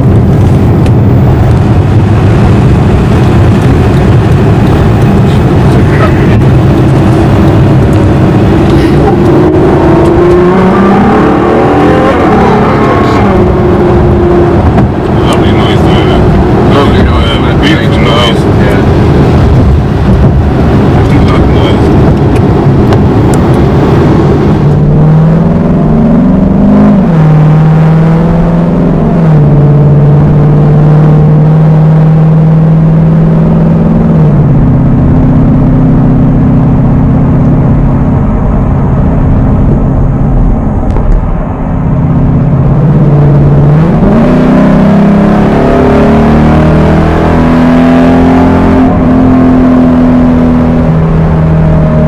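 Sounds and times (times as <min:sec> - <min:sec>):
car engine from inside cabin: 0:00.0 - 0:52.0
car engine revving: 0:00.0 - 0:52.0.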